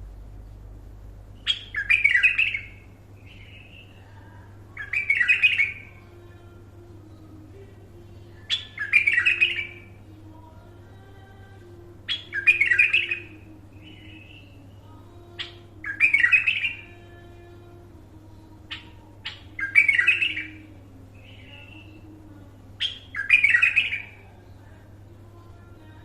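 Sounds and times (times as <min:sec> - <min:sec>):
steady low hum: 0:00.0 - 0:26.0
bulbul singing: 0:00.1 - 0:26.0.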